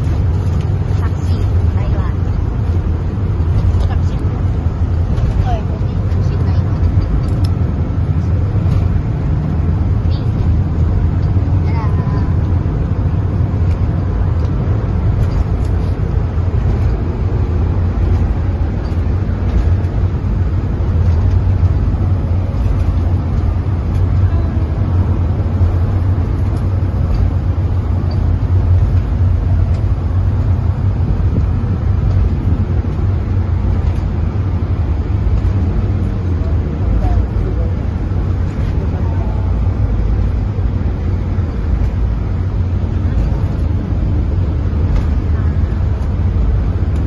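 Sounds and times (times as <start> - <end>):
moving vehicle rumble: 0.0 - 47.0.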